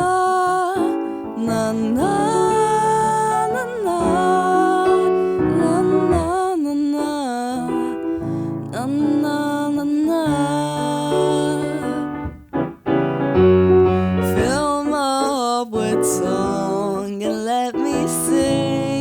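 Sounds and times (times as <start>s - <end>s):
electric piano chords: 0.0s - 19.0s
wordless sung melody: 0.0s - 19.0s.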